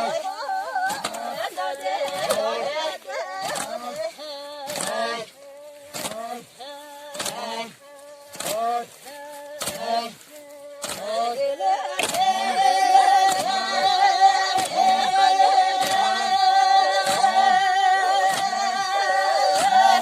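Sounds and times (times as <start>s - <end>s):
unaccompanied group singing: 0.0s - 20.0s.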